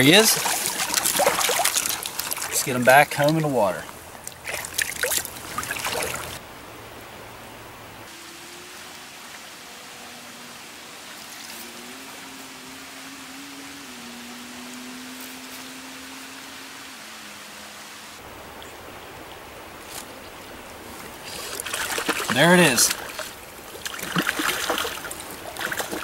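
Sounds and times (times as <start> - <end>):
water splashing: 0.0 - 6.6, 7.8 - 26.0
rushing stream: 0.0 - 26.0.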